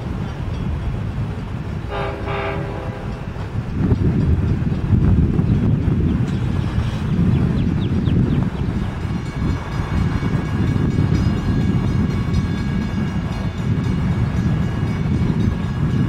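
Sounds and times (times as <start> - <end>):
diesel train rumbling: 0.0 - 16.0
wind buffeting microphone: 0.0 - 16.0.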